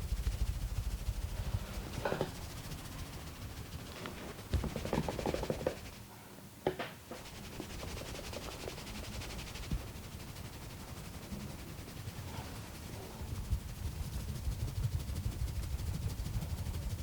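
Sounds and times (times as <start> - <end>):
hands rubbing and patting: 0.0 - 6.1, 7.1 - 16.2
steady low hum: 0.0 - 17.0.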